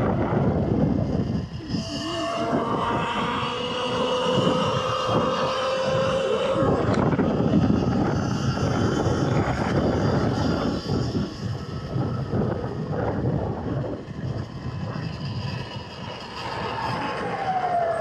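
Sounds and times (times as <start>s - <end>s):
road noise: 0.0s - 18.0s
wind rushing over microphone: 0.0s - 18.0s.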